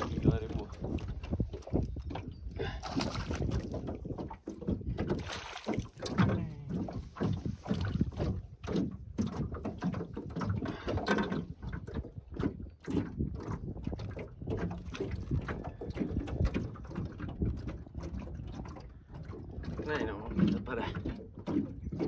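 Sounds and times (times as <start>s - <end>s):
water splashing: 0.0s - 22.0s.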